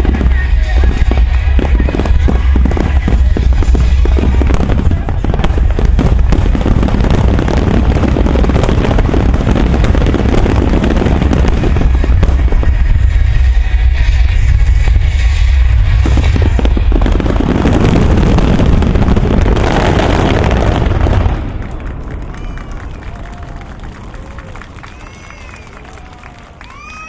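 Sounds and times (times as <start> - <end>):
heavy low rumble: 0.0 - 24.9
firework crackling barrage: 0.0 - 27.0.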